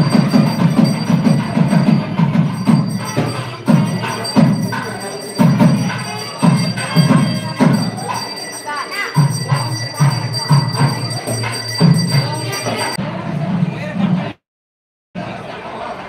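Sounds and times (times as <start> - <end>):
steady bright ringing: 0.0 - 13.0
drums beating: 0.0 - 14.4.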